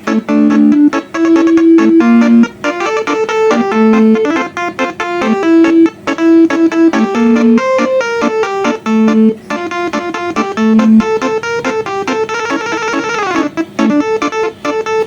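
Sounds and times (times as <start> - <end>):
multi-trumpet bus horn melody: 0.0 - 15.0.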